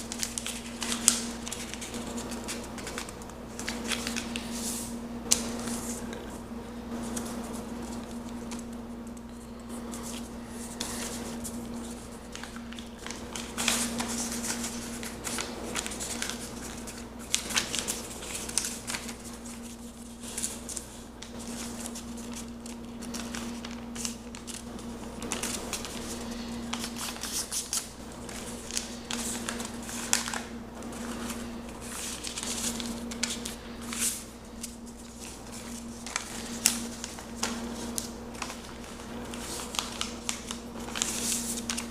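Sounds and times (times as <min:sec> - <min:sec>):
paper being folded and creased: 0:00.0 - 0:06.4, 0:09.4 - 0:41.9
steady low hum: 0:00.0 - 0:41.9.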